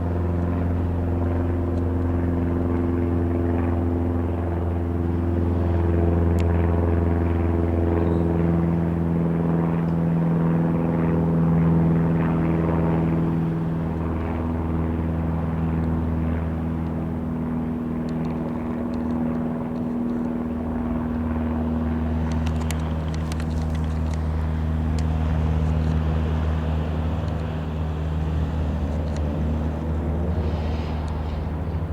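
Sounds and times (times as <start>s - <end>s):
propeller aircraft engine droning: 0.0s - 31.9s.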